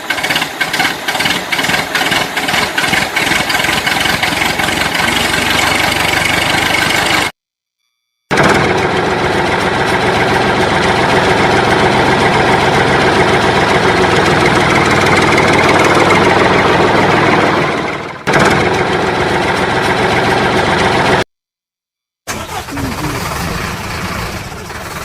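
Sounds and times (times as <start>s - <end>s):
engine idling: 0.0s - 7.3s, 8.3s - 21.2s, 22.3s - 25.0s.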